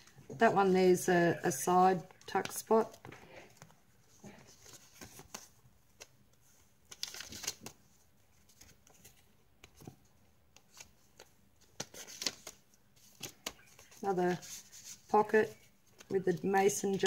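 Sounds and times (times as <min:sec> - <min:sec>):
paper pages rustling: 0:01.9 - 0:17.0.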